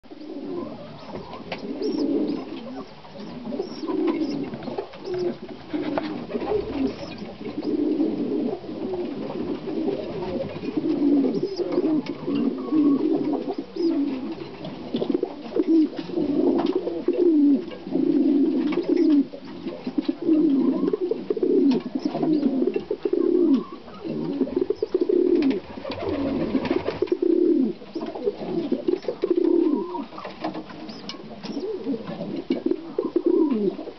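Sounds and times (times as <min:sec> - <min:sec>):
hens clucking low: 0:00.2 - 0:33.9.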